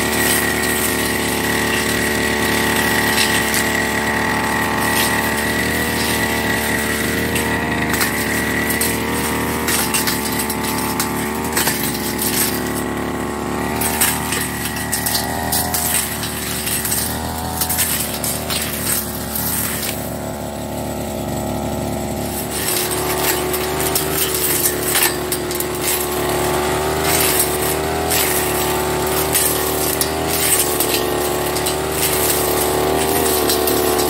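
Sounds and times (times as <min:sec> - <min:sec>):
brush cutter engine running: 0:00.0 - 0:34.0
cutting head striking stems: 0:00.0 - 0:34.0.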